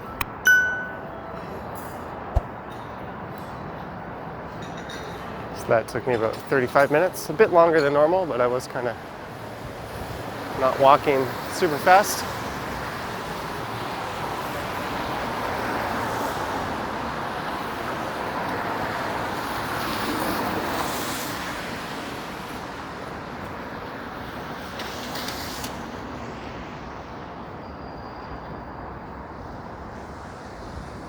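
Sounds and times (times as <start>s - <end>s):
cars passing on street: 0.0s - 31.0s.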